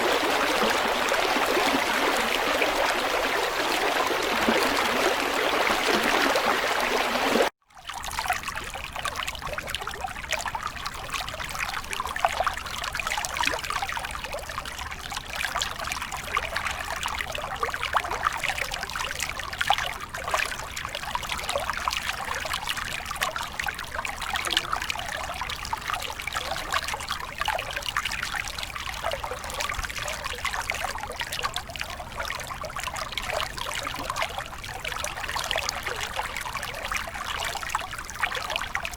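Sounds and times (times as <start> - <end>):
stream water flowing: 0.0 - 38.9
water trickling with small splashes: 0.0 - 38.9.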